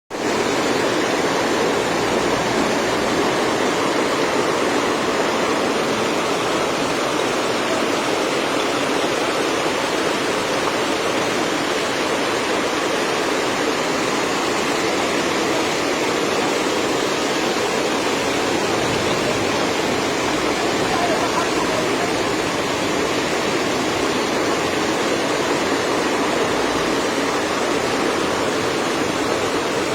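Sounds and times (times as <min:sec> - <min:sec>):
floodwater rushing: 0:00.1 - 0:29.9.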